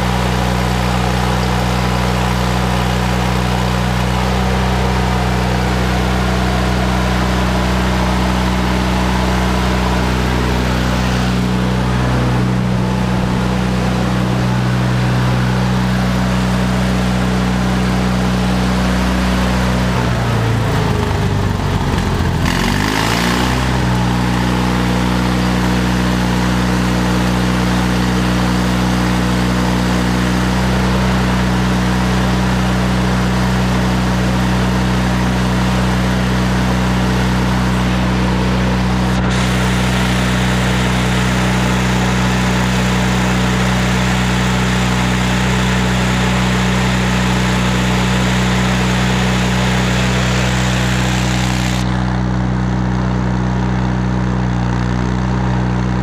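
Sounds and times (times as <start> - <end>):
generator engine droning: 0.0 - 56.0.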